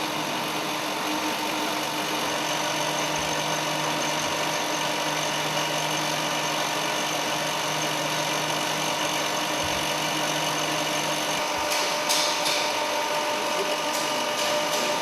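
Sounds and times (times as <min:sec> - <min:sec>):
industrial vacuum running: 0:00.0 - 0:15.0.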